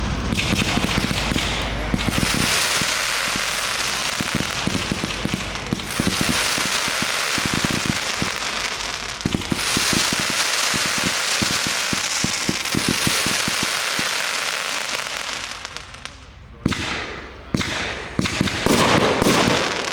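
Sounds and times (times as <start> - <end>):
fireworks crackling: 0.0 - 19.9.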